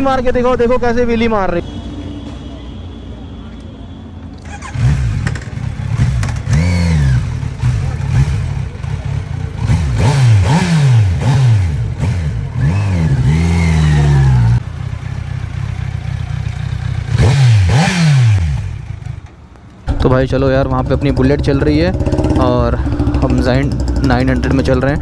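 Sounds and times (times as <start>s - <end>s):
motorcycle engine revving: 4.3s - 19.3s, 19.9s - 25.0s.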